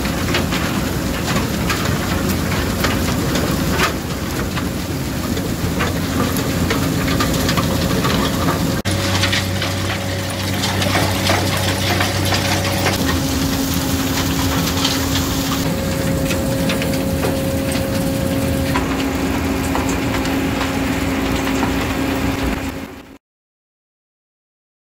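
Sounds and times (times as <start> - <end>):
soil and stones clattering: 0.0 - 22.6
diesel engine drone: 0.0 - 23.2.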